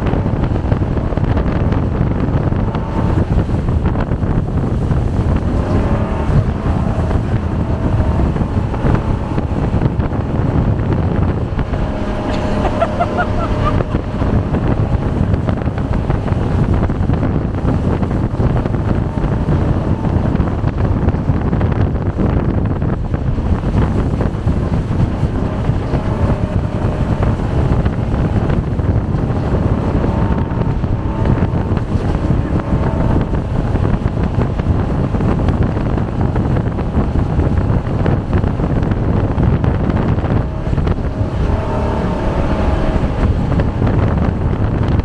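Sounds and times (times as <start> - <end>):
jet boat engine: 0.0 - 45.0
wind buffeting microphone: 0.0 - 45.0.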